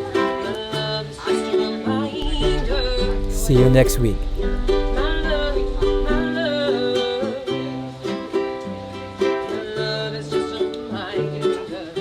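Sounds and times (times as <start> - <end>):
ukulele music: 0.0 - 12.0.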